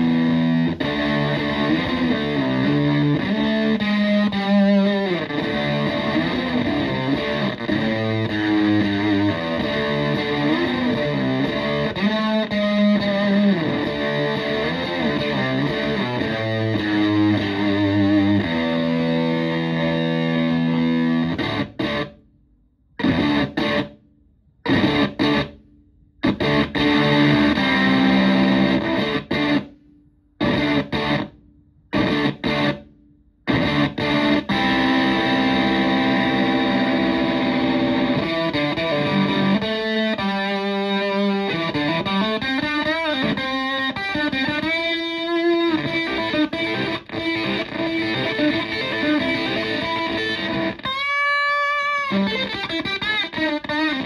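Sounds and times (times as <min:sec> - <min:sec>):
distorted electric guitar: 0:00.0 - 0:22.2, 0:22.9 - 0:54.0.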